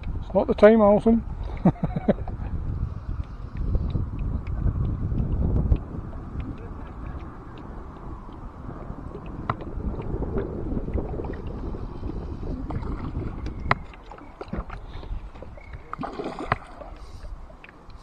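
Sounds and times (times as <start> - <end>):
water lapping around boat: 1.0 - 18.0.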